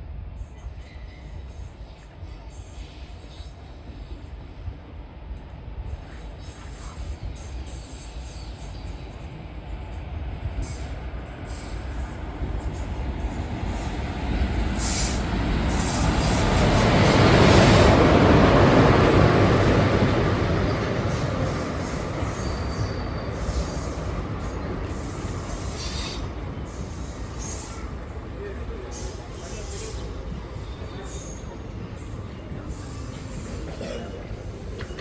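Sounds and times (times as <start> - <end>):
train passing on rails: 0.0 - 35.0.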